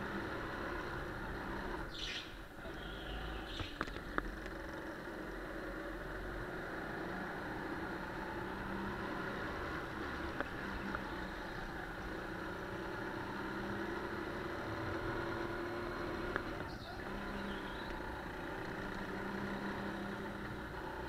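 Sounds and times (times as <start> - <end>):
kart engine running: 0.0 - 2.0, 2.6 - 21.0.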